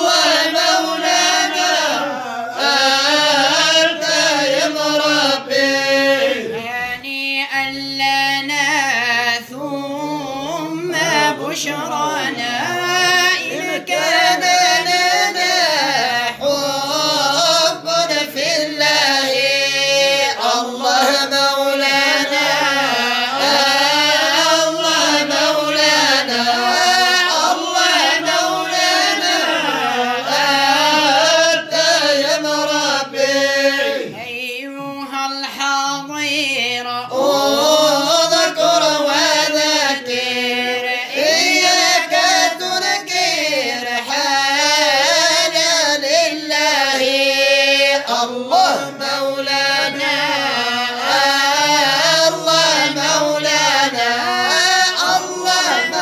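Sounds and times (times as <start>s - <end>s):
person singing praise poetry: 0.0s - 56.0s.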